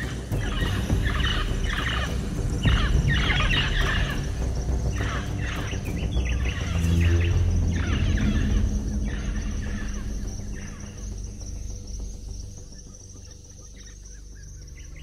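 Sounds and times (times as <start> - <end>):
insects chirring: 0.0 - 15.0
low sustained music score: 0.0 - 15.0.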